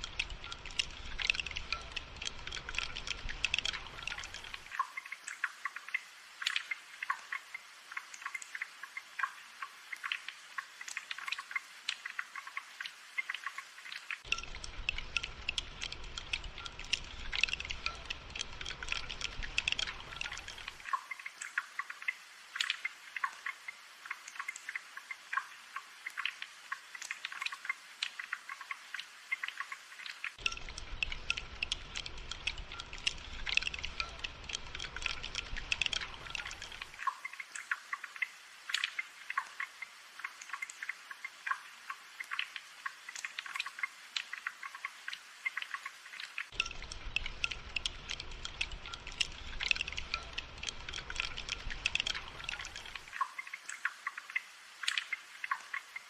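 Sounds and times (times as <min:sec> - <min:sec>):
gentle rain pattering: 0:00.0 - 0:56.0.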